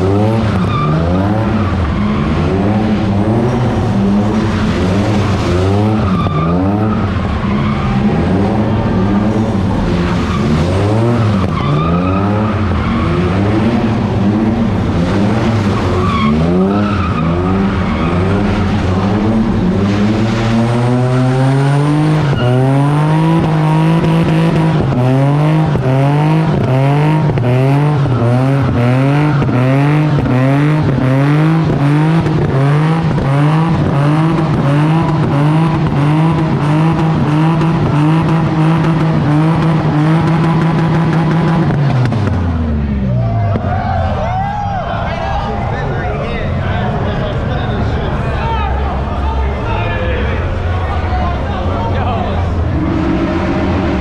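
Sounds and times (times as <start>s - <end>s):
car engine at high revs: 0.0s - 43.7s, 50.4s - 54.0s.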